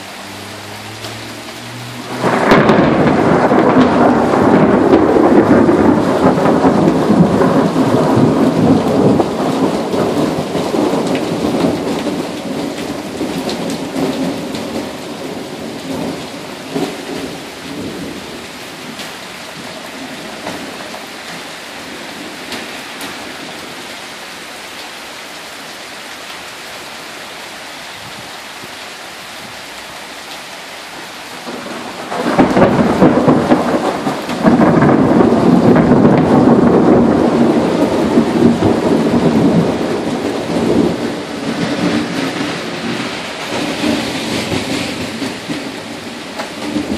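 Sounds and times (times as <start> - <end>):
heavy rain hissing: 0.0 - 46.9
thunder rolling: 0.9 - 23.8, 31.3 - 46.9.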